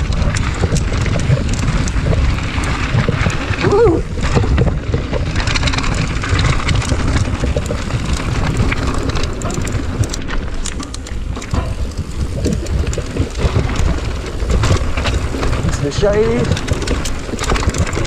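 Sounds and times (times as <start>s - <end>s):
bike rattling and clicking: 0.0s - 18.0s
tyres crunching over stones: 0.0s - 18.0s
wind buffeting microphone: 0.0s - 18.0s.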